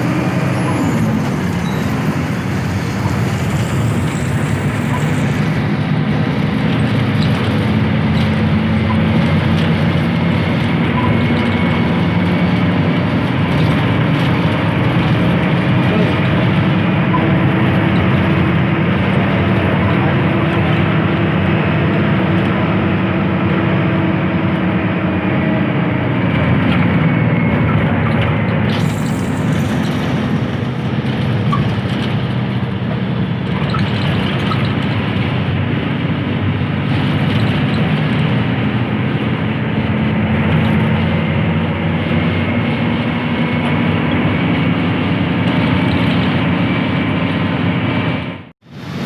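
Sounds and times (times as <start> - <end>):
bus engine drone: 0.0 - 49.0
road and wind noise: 0.0 - 49.0.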